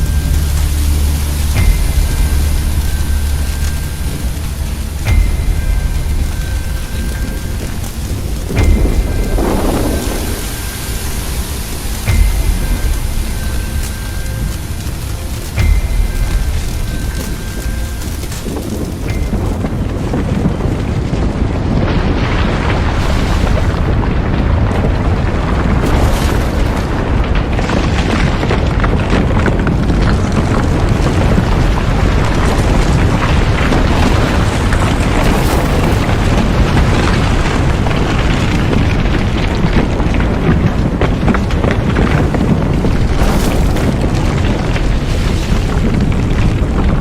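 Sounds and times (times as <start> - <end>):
loud low rumble: 0.0 - 47.0.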